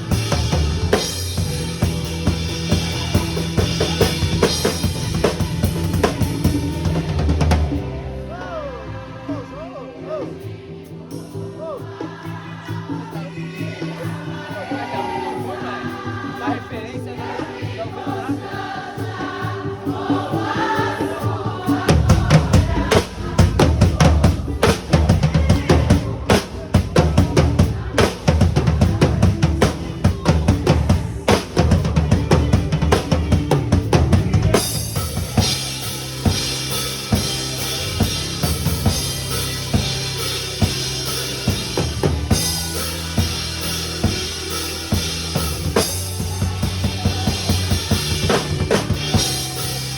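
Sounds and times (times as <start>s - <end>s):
drum kit playing: 0.0s - 8.7s, 10.4s - 49.9s
recorded worship song: 0.0s - 49.9s.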